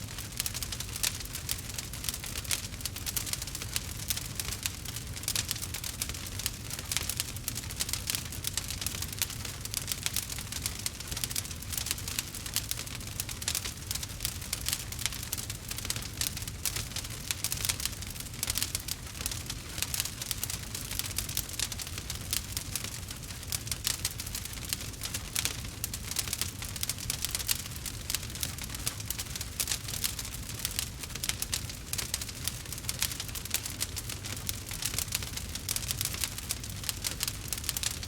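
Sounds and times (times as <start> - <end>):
campfire crackling: 0.1 - 38.0.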